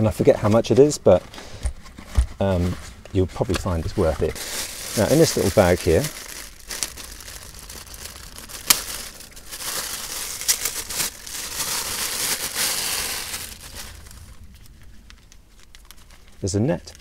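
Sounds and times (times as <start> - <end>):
bag crinkling and rustling: 0.2 - 17.0.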